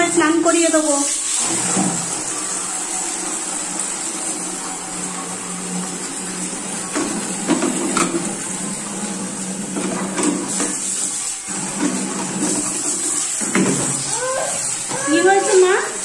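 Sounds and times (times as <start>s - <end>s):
tap water filling steel container: 0.7s - 16.0s.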